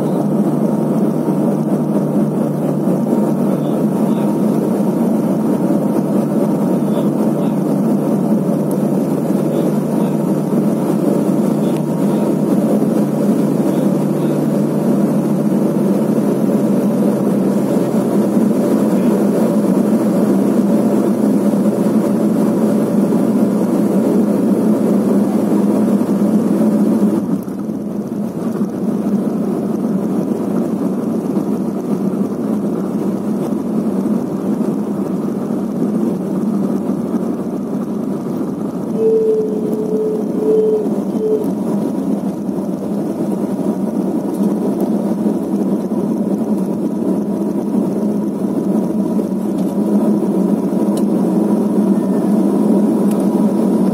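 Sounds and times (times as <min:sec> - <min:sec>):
turboprop engines droning: 0:00.0 - 0:53.9.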